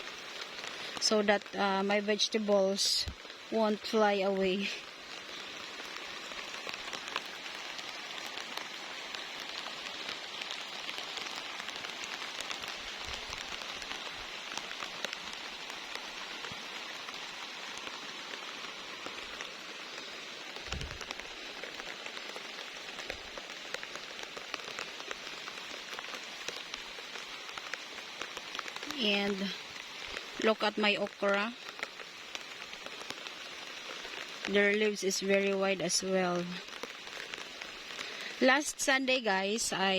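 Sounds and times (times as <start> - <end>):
rain falling on plants: 0.0 - 39.9.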